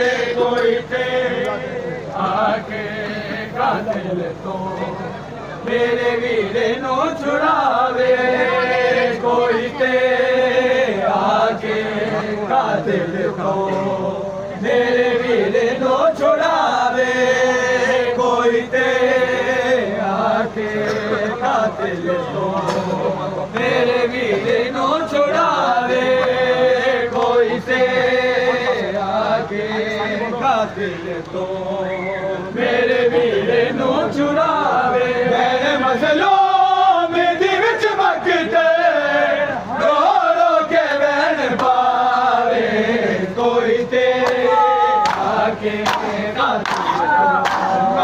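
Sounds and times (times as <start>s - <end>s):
men chanting a lament: 0.0s - 48.0s.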